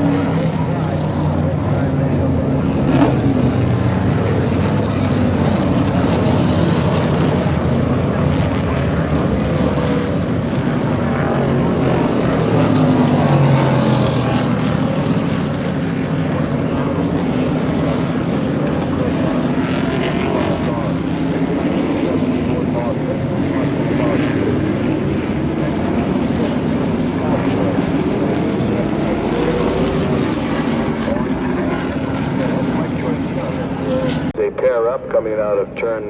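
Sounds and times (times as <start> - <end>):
race cars rumbling by: 0.0 - 36.0.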